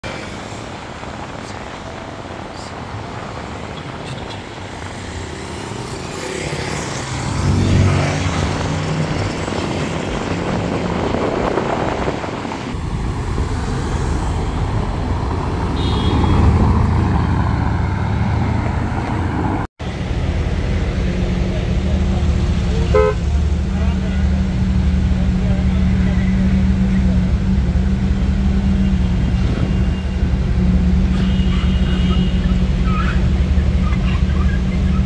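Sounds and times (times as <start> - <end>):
supercar engines: 0.0 - 35.0.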